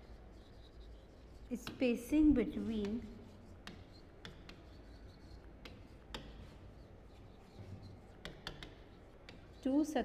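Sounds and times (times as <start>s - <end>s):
faint rubbing of writing strokes: 0.0s - 10.0s.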